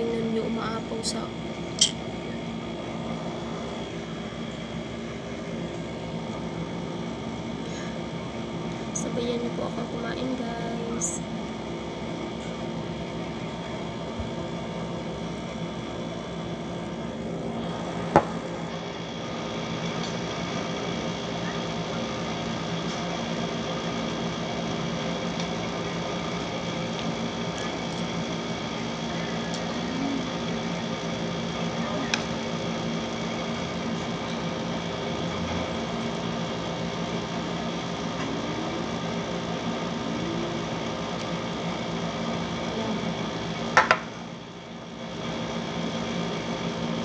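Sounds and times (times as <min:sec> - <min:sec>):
air conditioner humming: 0:00.0 - 0:47.0.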